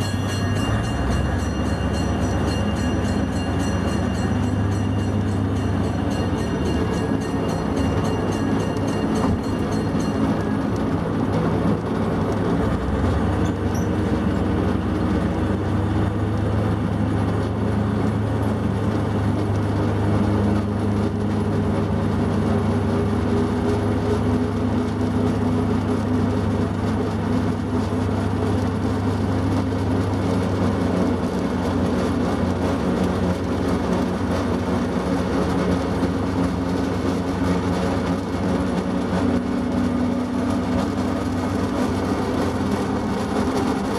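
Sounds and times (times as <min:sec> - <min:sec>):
locomotive engine running: 0:00.0 - 0:43.9.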